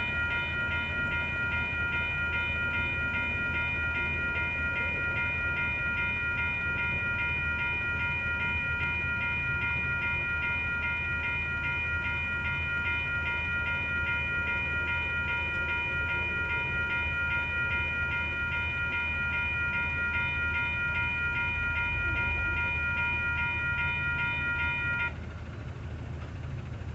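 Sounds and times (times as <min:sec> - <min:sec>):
railroad crossing bell ringing: 0:00.0 - 0:26.9.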